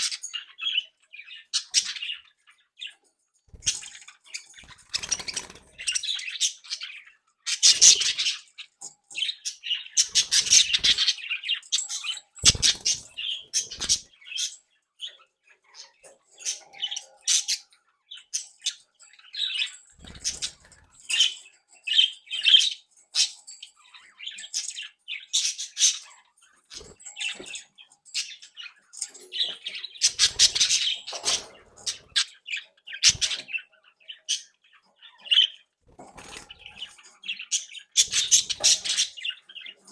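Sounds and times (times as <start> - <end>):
budgerigars chattering: 2.9 - 8.6, 9.2 - 39.9.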